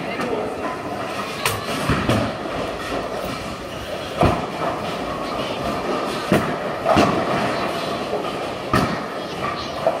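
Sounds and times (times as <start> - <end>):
bowling balls rolling on wooden lanes: 0.0 - 10.0.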